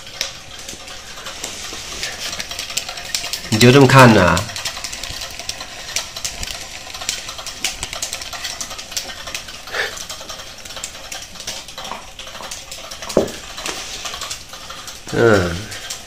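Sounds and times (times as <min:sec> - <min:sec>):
toy clicks: 0:00.0 - 0:16.0.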